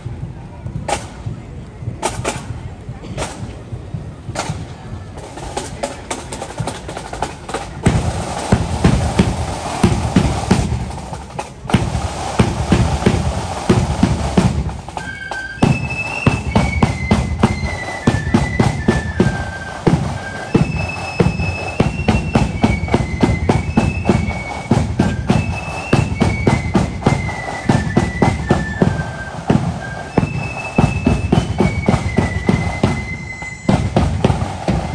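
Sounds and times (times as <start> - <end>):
snare drums: 0.0 - 34.9
flute melody: 5.6 - 34.9.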